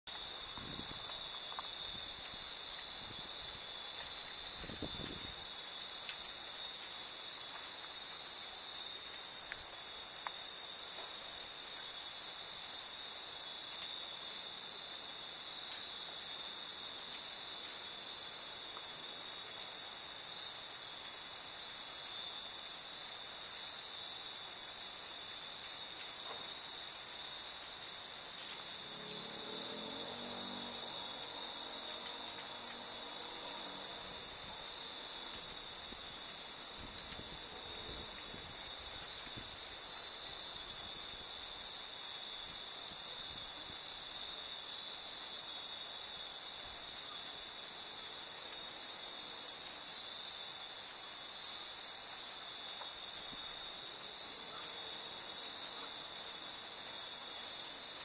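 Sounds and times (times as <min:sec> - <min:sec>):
insects shrilling: 0:00.1 - 0:48.9.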